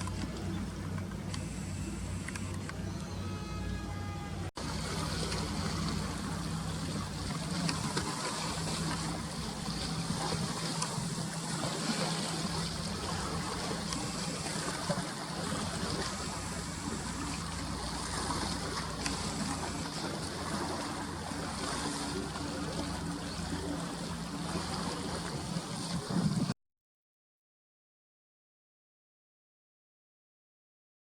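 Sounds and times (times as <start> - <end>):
sea water lapping: 0.0 - 26.5
low motor hum: 0.0 - 26.6.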